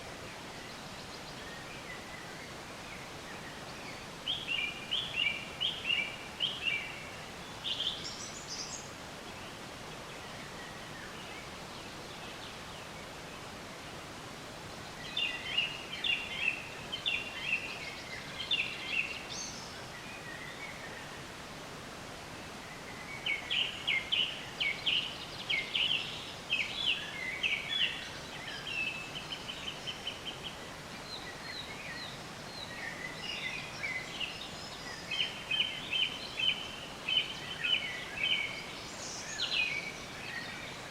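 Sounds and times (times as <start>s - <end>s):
songbirds chirping and trilling: 0.0s - 40.9s
steady background hiss: 0.0s - 40.9s.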